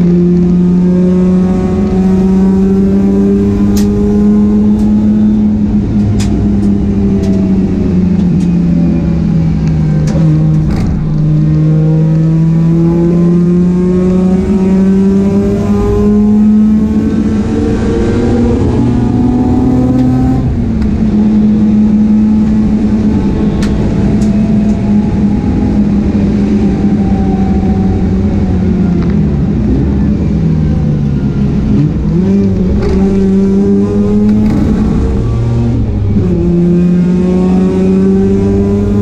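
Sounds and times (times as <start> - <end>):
rotary engine revving: 0.0 - 39.0.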